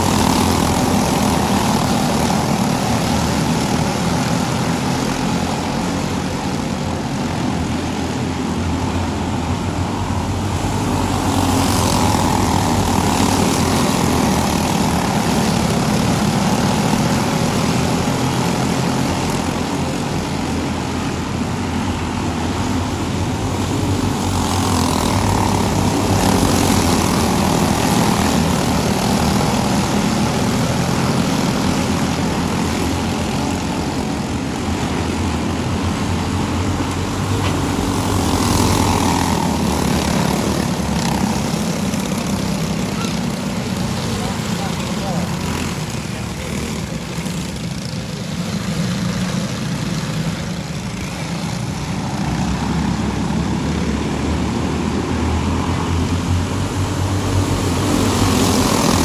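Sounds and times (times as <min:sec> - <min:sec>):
racing kart engines droning: 0:00.0 - 0:59.0.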